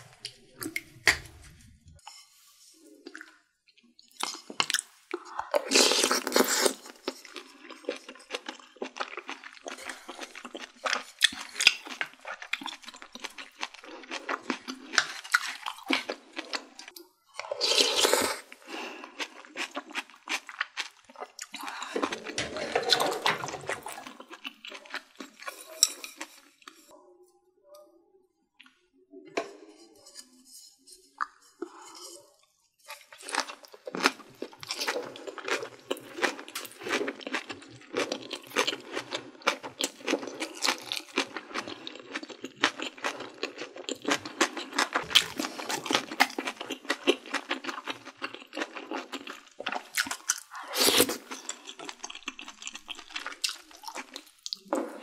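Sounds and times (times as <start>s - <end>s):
person chewing food: 3.0s - 27.0s, 31.2s - 55.0s.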